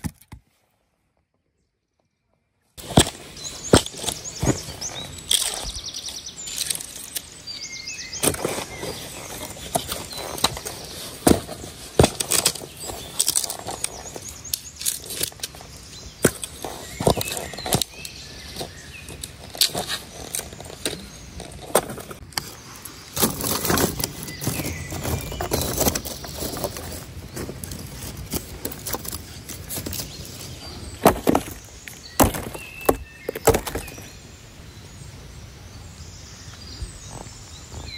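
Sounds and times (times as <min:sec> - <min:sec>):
birds chirping: 0:01.3 - 0:37.9
rustling: 0:02.8 - 0:34.1.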